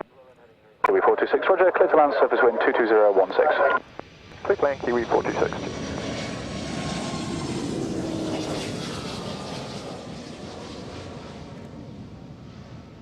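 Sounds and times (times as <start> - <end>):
plane engine flying by: 1.0 - 13.0.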